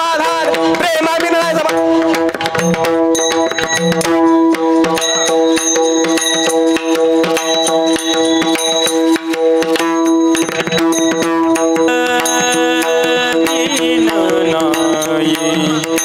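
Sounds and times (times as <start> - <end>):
drum strokes in quick rhythm: 0.0 - 16.0
hand cymbals ringing: 1.8 - 16.0.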